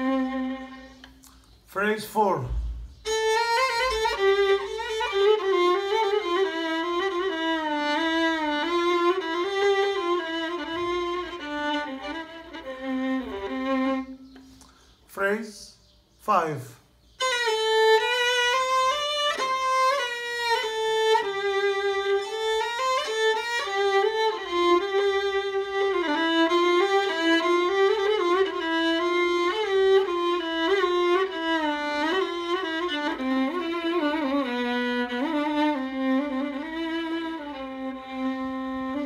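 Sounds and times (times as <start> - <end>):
solo bowed violin: 0.0 - 1.2, 2.6 - 14.5, 17.1 - 39.0.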